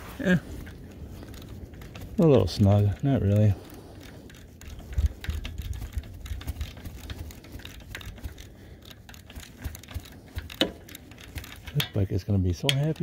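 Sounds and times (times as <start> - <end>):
hand tools clicking and tapping: 0.0 - 13.0.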